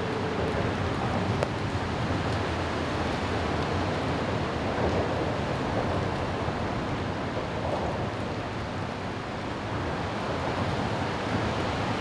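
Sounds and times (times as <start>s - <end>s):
rain falling on water: 0.0s - 12.0s.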